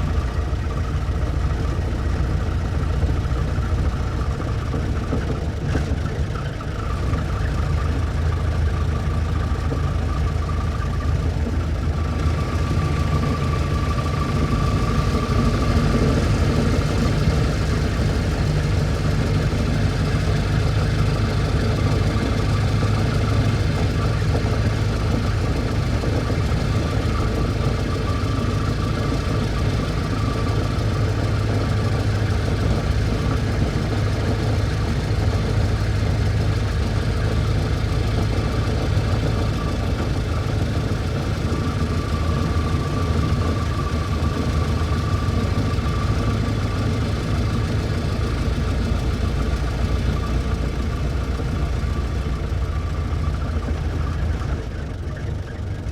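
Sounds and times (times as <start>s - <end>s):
car engine running steadily: 0.0s - 55.9s.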